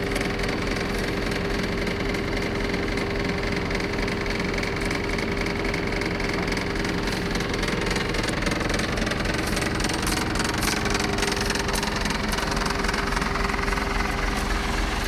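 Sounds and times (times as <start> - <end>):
lorry engine idling: 0.0 - 15.0.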